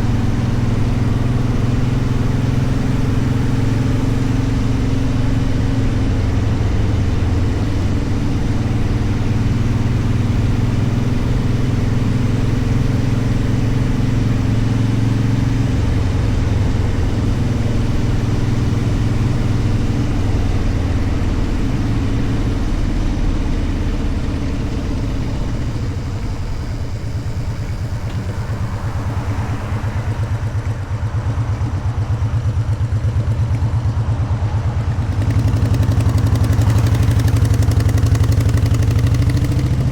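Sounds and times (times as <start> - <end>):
motorcycle engine running: 0.0 - 39.9
road and air noise: 0.0 - 39.9.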